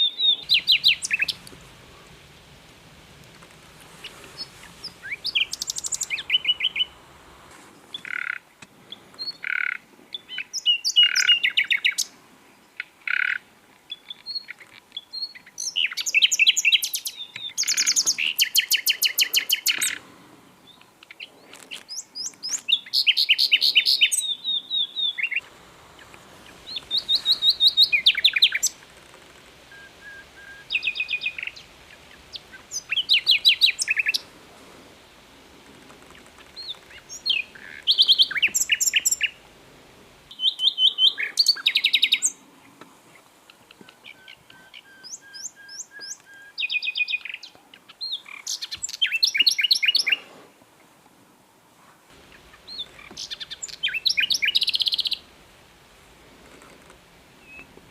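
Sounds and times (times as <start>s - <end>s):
nightingale singing: 0.0s - 42.4s, 43.5s - 50.3s, 52.1s - 55.9s, 57.2s - 57.9s.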